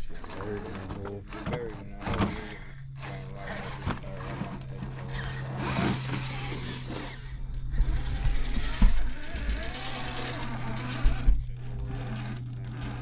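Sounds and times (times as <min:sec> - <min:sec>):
steady low hum: 0:00.0 - 0:13.0
toy car motor whirring: 0:00.0 - 0:13.0.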